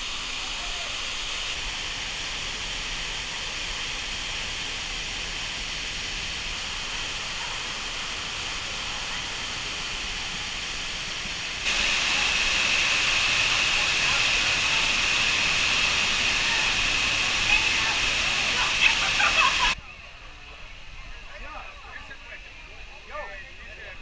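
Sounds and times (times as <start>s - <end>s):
waterfall rushing: 0.0s - 19.8s.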